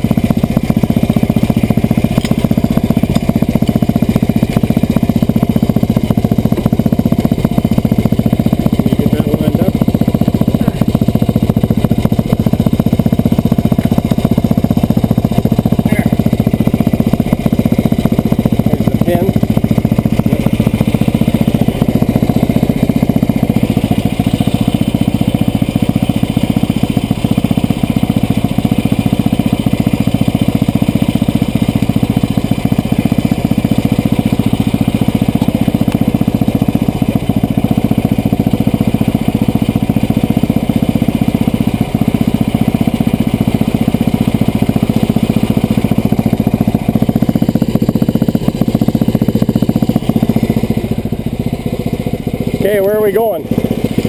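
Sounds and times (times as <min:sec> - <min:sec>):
vehicle engine running steadily: 0:00.0 - 0:54.0.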